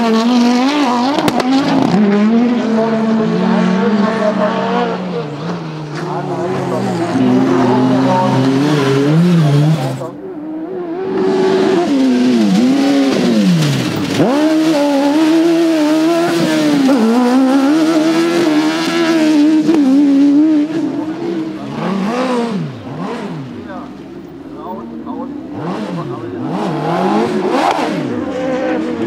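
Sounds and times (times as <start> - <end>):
another race car engine: 0.0 - 29.0
racing engine at high revs: 0.0 - 29.0.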